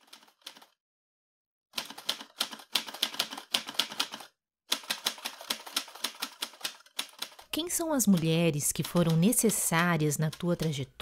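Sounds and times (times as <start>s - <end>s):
rapid keyboard typing: 0.0s - 0.8s, 1.8s - 11.0s.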